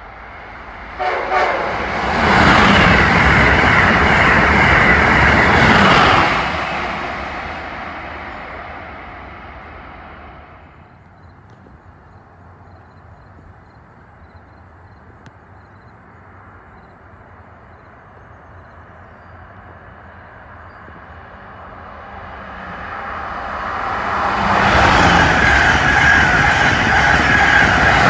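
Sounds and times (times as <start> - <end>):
high-speed train passing: 0.0 - 28.0.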